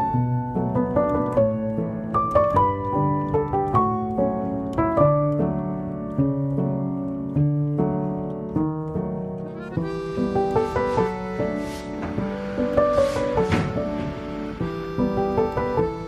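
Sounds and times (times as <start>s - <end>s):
gentle solo piano melody: 0.0s - 16.0s.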